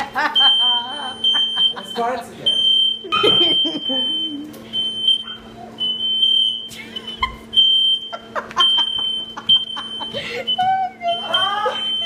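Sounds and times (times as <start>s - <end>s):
smoke alarm beeping: 0.3s - 12.0s.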